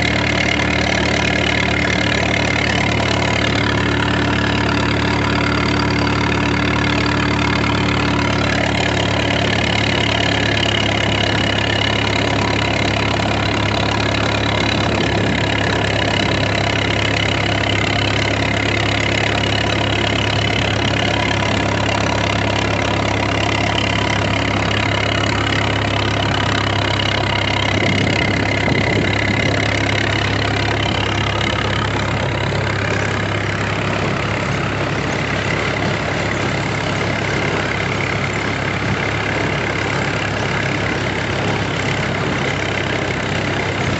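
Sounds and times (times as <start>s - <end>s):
engine idling: 0.0s - 43.9s.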